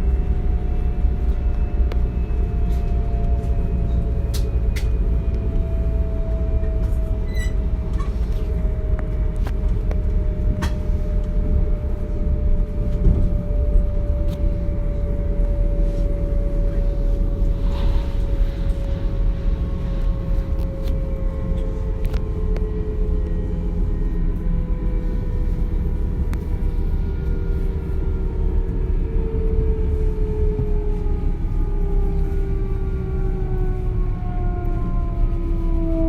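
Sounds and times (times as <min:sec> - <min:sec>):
train rolling rumble: 0:00.0 - 0:36.0.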